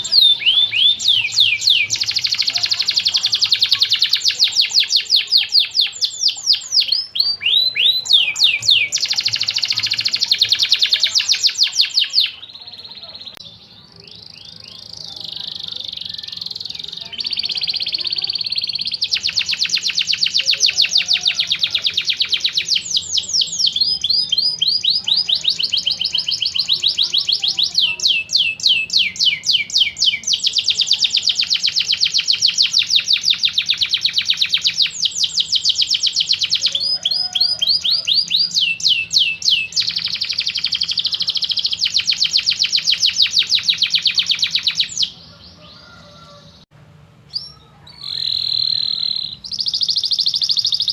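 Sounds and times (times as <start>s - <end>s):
canary singing trills: 0.0s - 46.7s, 47.3s - 50.9s.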